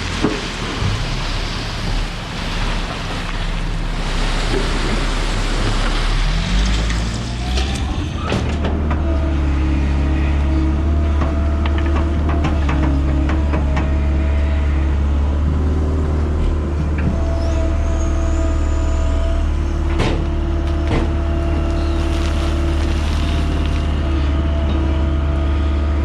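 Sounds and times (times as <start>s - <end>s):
heavy diesel engine rumbling: 0.0s - 26.0s.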